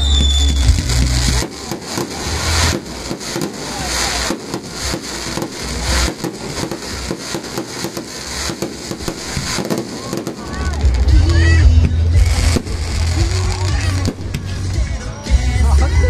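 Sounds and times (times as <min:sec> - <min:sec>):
low thuds of fireworks: 0:00.0 - 0:15.5
fireworks crackling and popping: 0:00.0 - 0:16.0.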